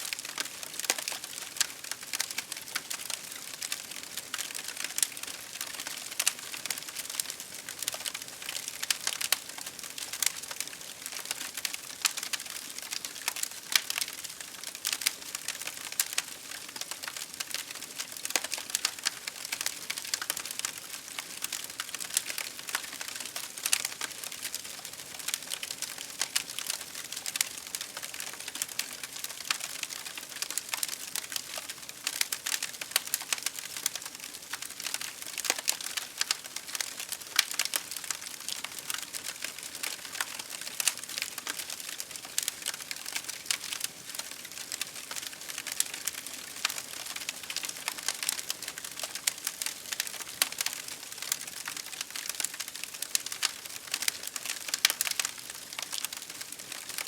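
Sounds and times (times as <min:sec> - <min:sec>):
campfire crackling: 0:00.1 - 0:57.0.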